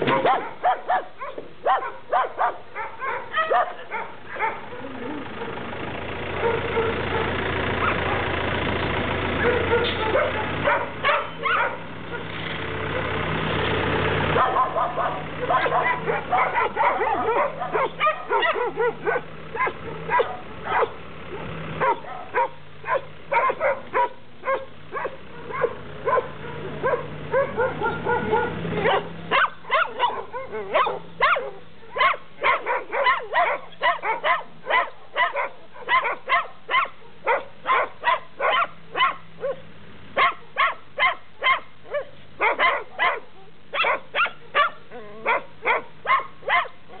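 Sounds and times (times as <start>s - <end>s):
dogs barking: 0.0s - 5.6s, 6.3s - 8.3s, 9.3s - 13.2s, 14.3s - 47.0s.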